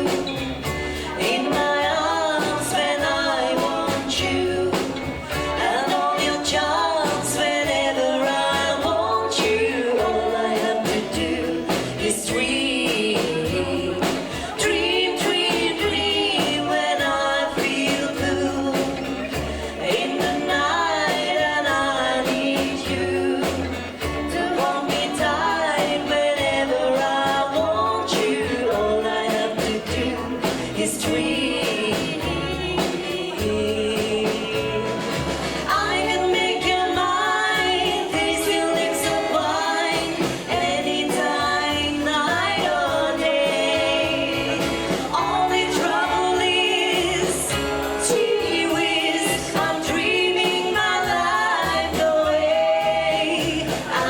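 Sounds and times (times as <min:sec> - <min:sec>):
live band playing a ballad: 0:00.0 - 0:54.0
person singing lead vocal: 0:00.0 - 0:54.0
steady bass line: 0:00.0 - 0:54.0.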